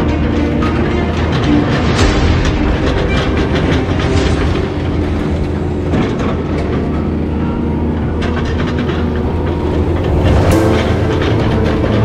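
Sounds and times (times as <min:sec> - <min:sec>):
excavator diesel engine drone: 0:00.0 - 0:12.0
metal clanks: 0:00.0 - 0:12.0.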